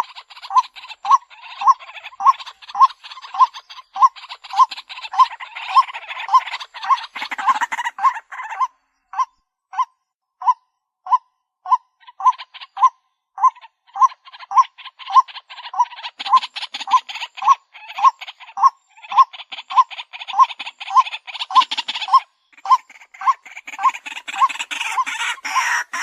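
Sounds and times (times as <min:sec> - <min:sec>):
scratchy bird chattering: 0:00.0 - 0:26.0.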